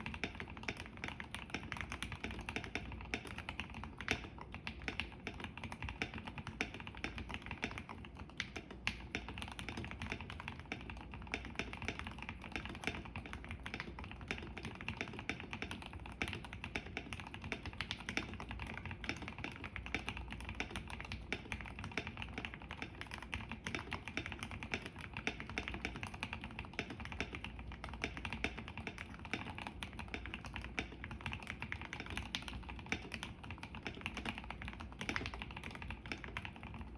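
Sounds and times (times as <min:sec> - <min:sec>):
fast typing on mechanical keyboard: 0:00.0 - 0:36.9.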